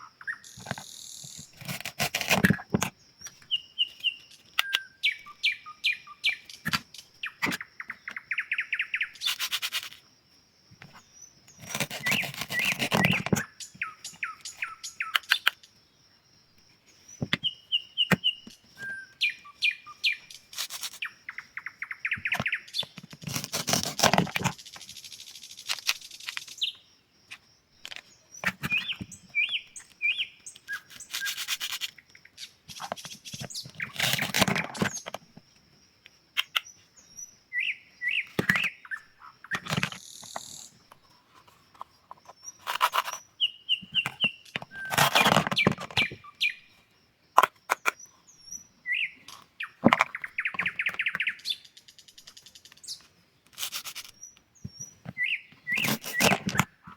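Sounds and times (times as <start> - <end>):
bird-like chirping: 0.0 - 10.0, 10.8 - 16.2, 16.8 - 35.2, 36.4 - 40.9, 41.7 - 46.8, 47.4 - 56.9.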